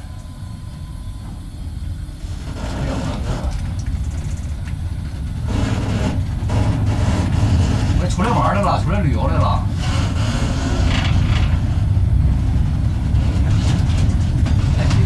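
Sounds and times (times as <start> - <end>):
electric locomotive rumbling: 0.0 - 15.0.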